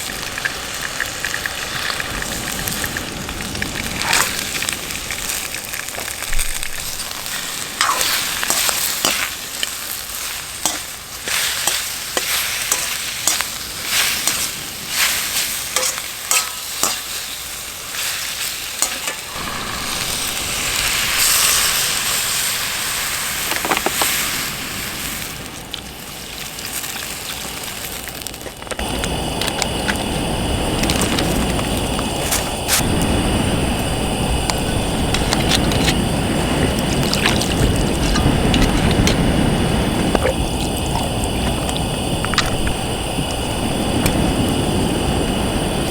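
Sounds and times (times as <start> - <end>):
food sizzling in a pan: 0.0 - 45.9.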